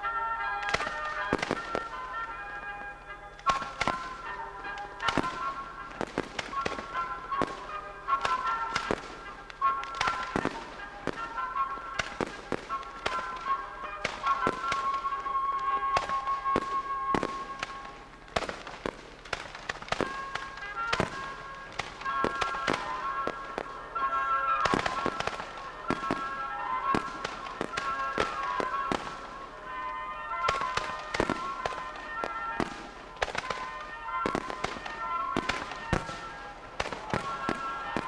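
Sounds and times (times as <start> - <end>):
fireworks bangs and crackling: 0.0 - 38.0
music with long held notes: 0.0 - 38.0.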